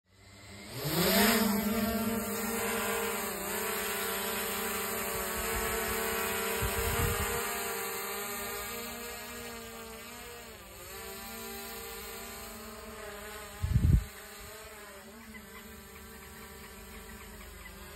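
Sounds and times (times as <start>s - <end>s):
drone propellers buzzing: 0.1s - 17.9s.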